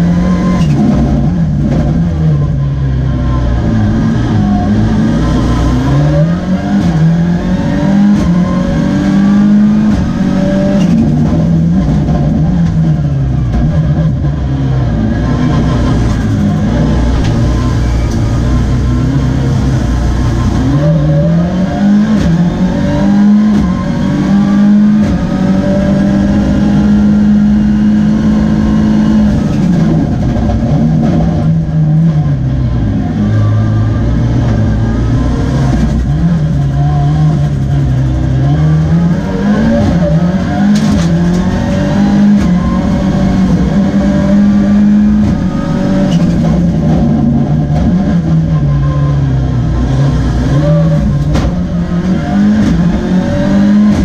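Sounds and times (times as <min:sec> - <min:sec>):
car engine revving at race pace: 0:00.0 - 0:54.0.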